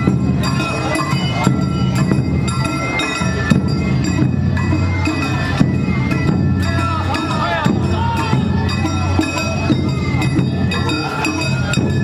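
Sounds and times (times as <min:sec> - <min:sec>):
drums: 0:00.0 - 0:12.0
ringing metal percussion: 0:00.0 - 0:12.0.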